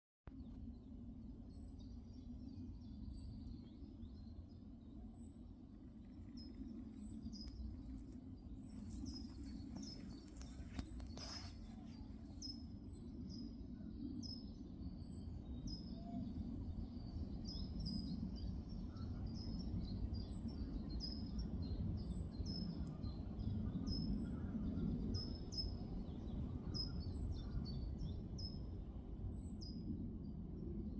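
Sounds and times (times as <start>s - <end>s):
low background rumble: 0.3s - 30.9s.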